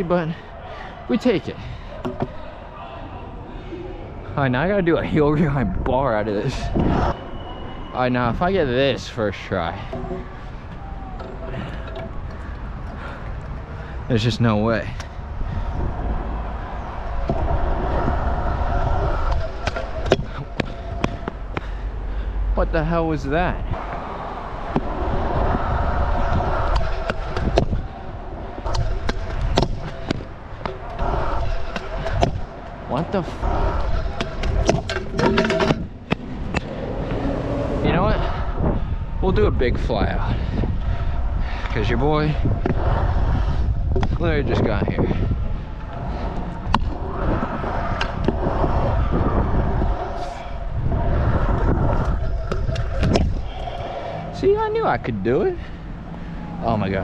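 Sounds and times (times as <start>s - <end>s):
scooter wheels rolling on concrete: 6.2s - 22.0s, 23.6s - 39.2s, 39.8s - 56.2s.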